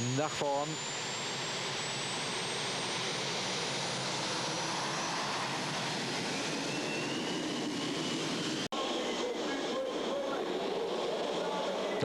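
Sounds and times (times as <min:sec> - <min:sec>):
turbine engines whining: 0:00.0 - 0:12.0.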